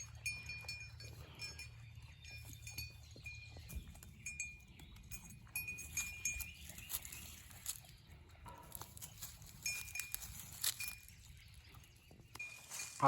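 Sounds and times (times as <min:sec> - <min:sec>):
goats chewing: 0:00.0 - 0:13.0.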